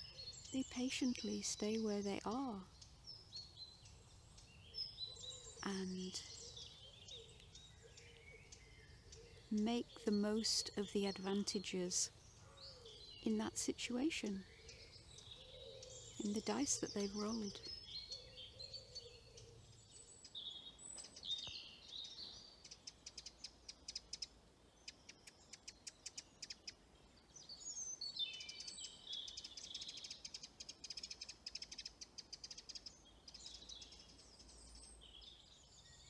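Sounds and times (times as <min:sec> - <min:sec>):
faint songbirds singing: 0:00.0 - 0:36.0.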